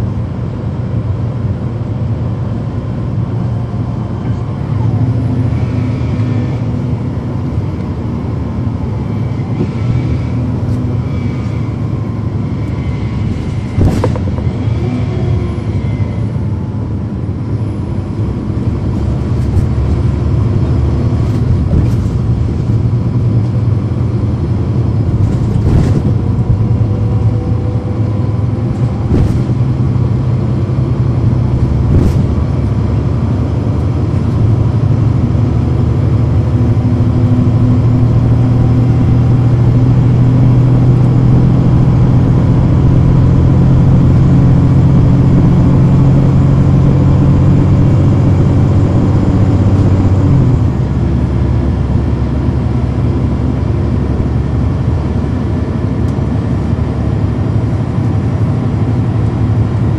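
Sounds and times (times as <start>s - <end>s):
bus diesel engine rumbling: 0.0s - 59.9s.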